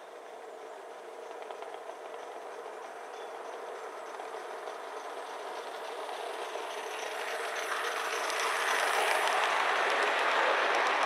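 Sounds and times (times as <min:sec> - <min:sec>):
model steam train running on rails: 0:00.0 - 0:11.0.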